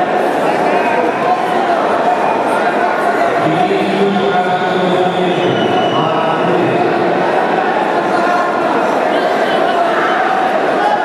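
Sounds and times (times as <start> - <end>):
crowd murmur in a large hall: 0.0 - 11.0.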